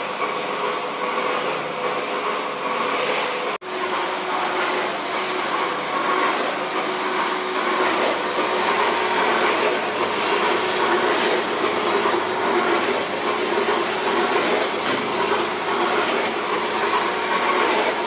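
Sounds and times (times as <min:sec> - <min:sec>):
coffee roasting machine whirring: 0:00.0 - 0:18.0.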